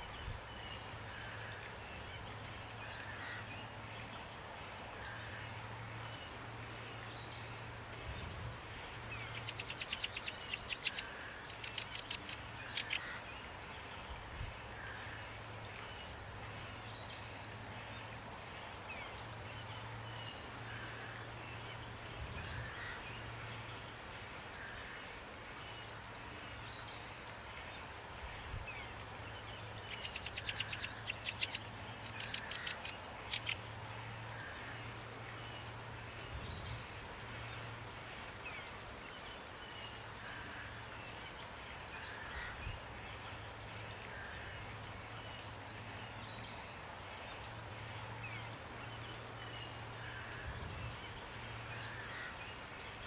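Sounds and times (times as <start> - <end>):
rain hiss: 0.0 - 53.0
songbirds chirping: 0.0 - 53.0.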